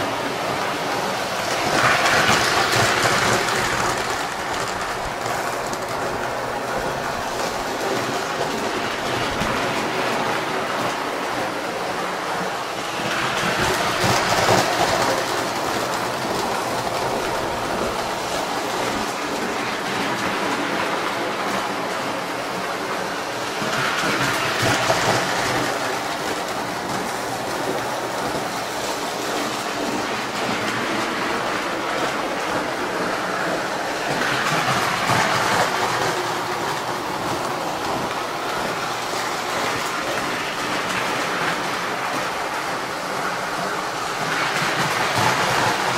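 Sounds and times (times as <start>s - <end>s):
toy train clattering rumble: 0.1s - 45.9s.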